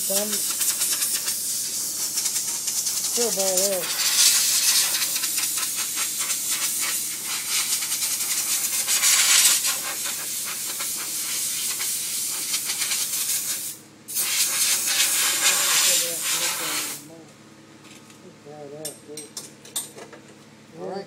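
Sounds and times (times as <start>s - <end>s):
spray gun hissing: 0.0s - 17.0s.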